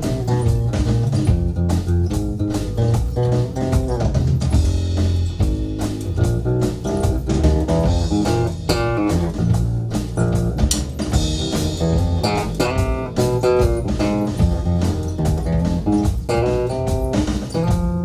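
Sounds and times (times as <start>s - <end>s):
electric bass guitar melody: 0.0s - 18.0s
electronic drums: 0.0s - 18.0s.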